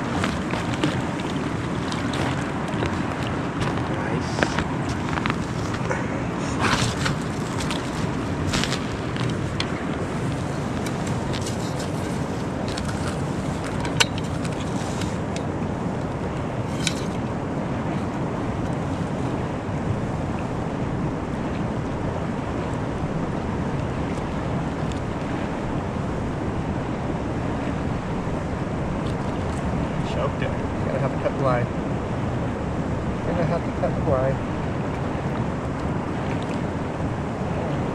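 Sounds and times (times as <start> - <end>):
wind on microphone: 0.0 - 37.9.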